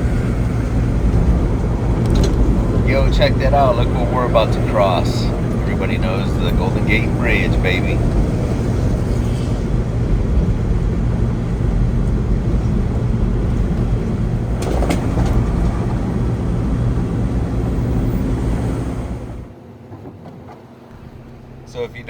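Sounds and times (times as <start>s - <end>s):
vehicle driving rumble: 0.0s - 19.6s, 20.6s - 22.0s.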